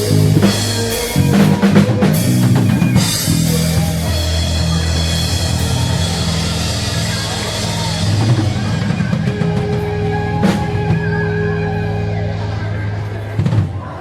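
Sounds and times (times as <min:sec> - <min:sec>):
rock band music: 0:00.0 - 0:14.0.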